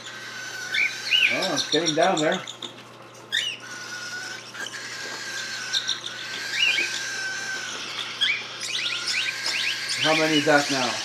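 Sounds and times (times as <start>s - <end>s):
baby cockatiels chirping: 0.0s - 11.0s.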